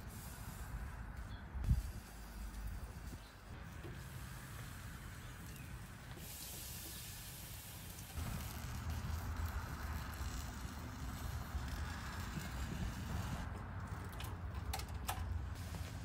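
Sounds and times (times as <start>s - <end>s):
grill sizzling: 0.0s - 13.5s.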